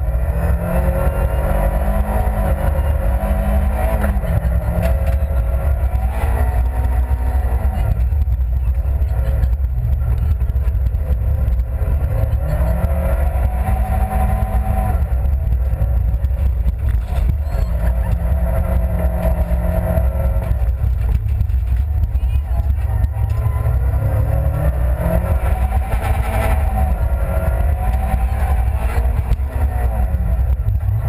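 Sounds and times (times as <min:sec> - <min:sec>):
car engine revving: 0:00.0 - 0:31.0
road and cabin rumble: 0:00.0 - 0:31.0.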